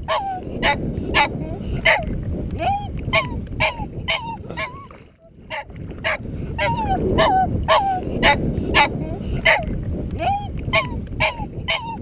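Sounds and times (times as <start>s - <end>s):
small dog yipping: 0.0s - 8.9s, 9.5s - 12.0s
steady low rumble: 0.0s - 12.0s.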